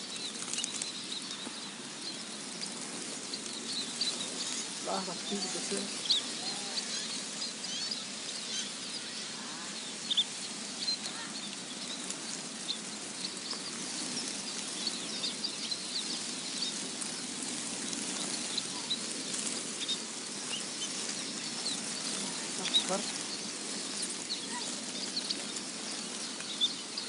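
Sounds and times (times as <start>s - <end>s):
small birds cheeping: 0.0s - 27.0s
steady hiss: 0.0s - 27.0s.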